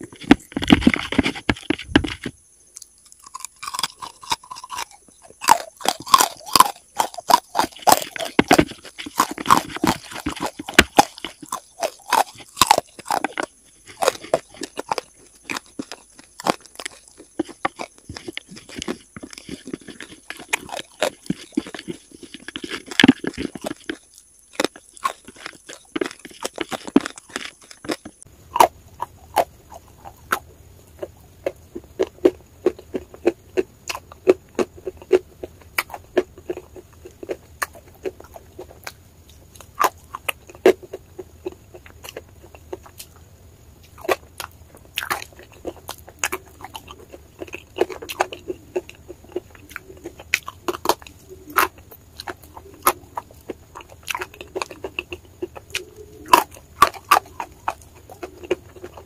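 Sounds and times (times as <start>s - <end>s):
chewing with mouth clicks: 0.0s - 43.2s, 43.8s - 59.0s.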